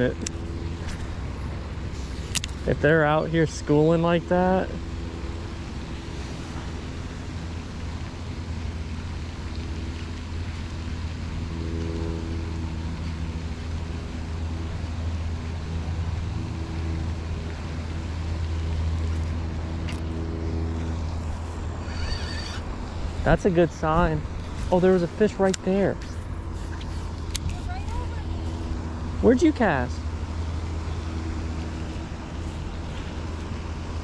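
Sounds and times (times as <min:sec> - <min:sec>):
low engine-like hum: 0:00.0 - 0:34.0.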